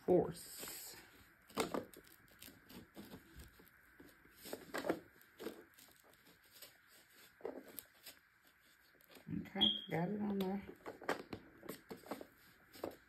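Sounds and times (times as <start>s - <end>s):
handling rustling: 0.6s - 9.3s, 10.2s - 13.0s.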